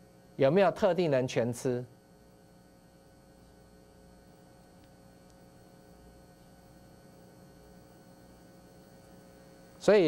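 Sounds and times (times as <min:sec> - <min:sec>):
faint mains hum: 0:00.0 - 0:10.0.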